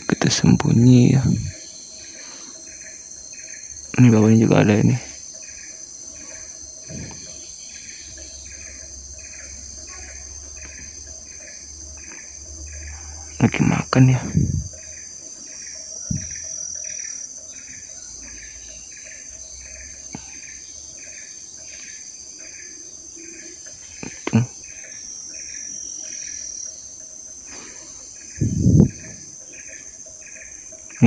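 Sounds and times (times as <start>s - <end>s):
high-pitched insect drone: 0.0s - 31.0s
insect chirping: 0.0s - 31.0s.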